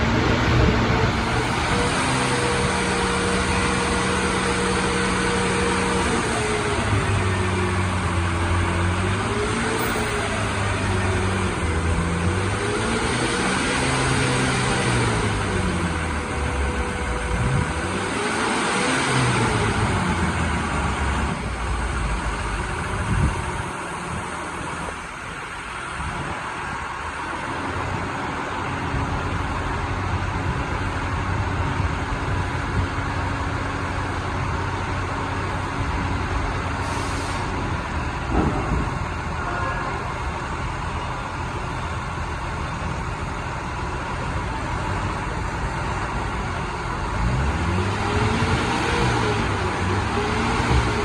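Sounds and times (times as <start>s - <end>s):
engine running and revving: 0.0s - 39.3s, 41.9s - 51.0s.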